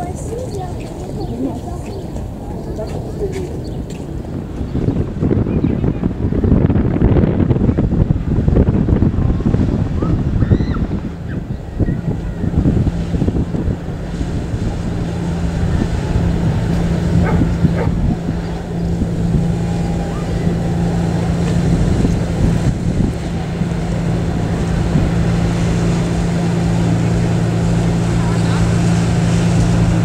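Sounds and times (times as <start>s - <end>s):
boat engines humming: 0.0s - 30.0s
wind rumbling on microphone: 0.0s - 30.0s.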